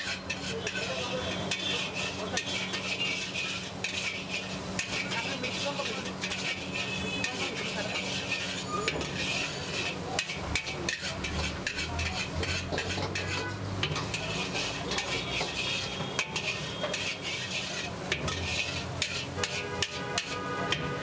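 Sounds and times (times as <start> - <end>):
gravy bubbling and sizzling: 0.0 - 21.0
metal ladle scraping a pot: 0.0 - 21.0.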